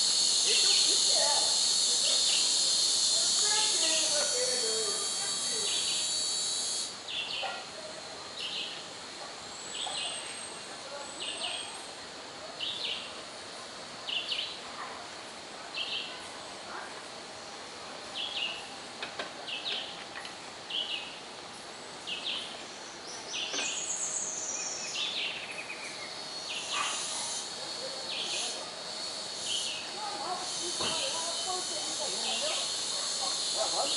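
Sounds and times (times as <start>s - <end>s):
steady background hiss: 0.0s - 33.9s.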